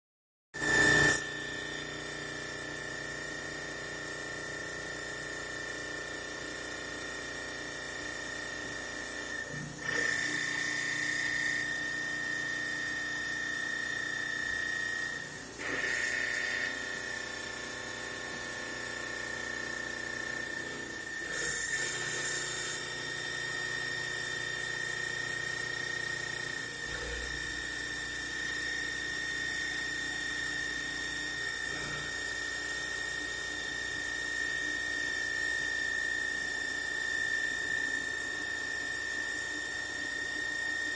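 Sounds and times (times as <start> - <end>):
milling machine spindle whine: 0.6 - 40.9.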